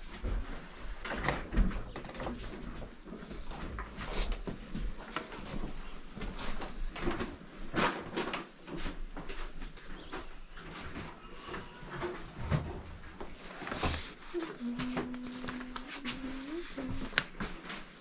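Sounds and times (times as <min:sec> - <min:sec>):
household items being handled: 0:02.2 - 0:18.0.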